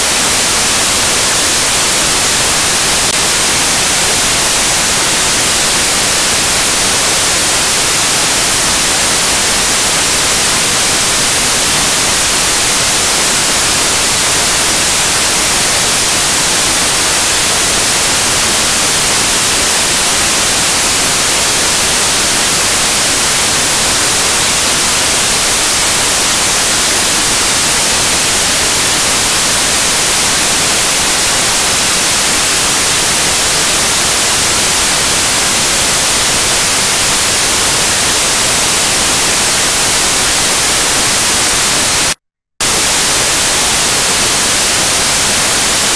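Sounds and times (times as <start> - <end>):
loud static hiss: 0.0 - 45.9.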